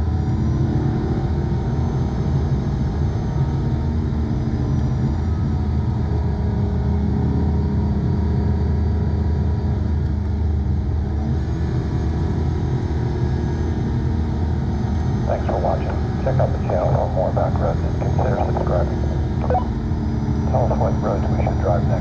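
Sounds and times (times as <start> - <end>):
car engine steady drone: 0.0 - 22.0.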